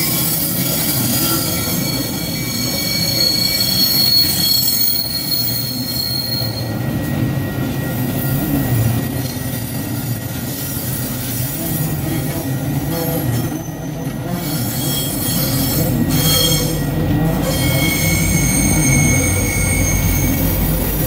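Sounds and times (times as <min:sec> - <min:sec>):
high-pitched metallic squealing: 0:00.0 - 0:21.0
train wheels rumbling on rails: 0:00.0 - 0:21.0.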